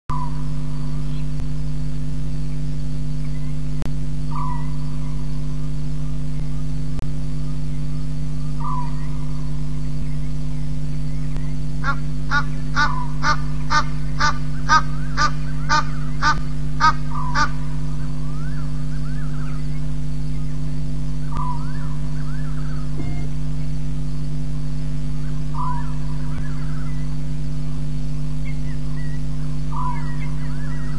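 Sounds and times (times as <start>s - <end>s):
microphone electrical hum: 0.1s - 30.9s.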